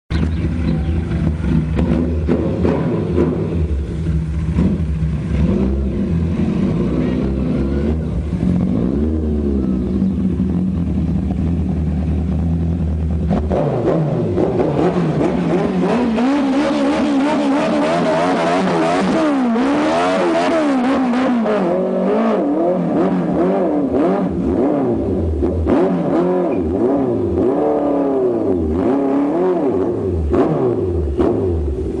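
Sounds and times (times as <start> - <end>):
motorcycle engine revving: 0.1 - 32.0.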